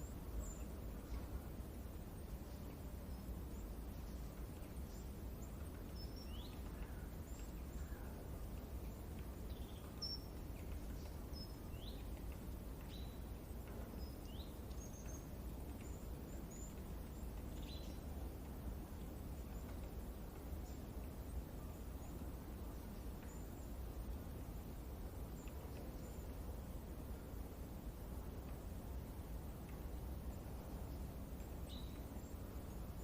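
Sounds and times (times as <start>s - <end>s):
birds chirping: 0.0s - 26.4s
wind rustle: 0.0s - 33.0s.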